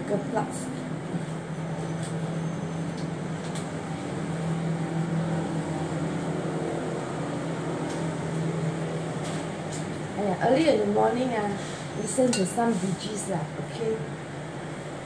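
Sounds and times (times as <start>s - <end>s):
electric fan motor hum: 0.0s - 15.0s.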